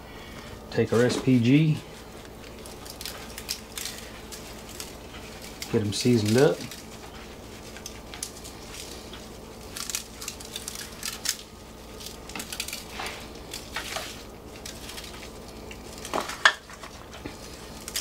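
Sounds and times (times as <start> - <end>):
foil and meat rustling: 0.1 - 18.0.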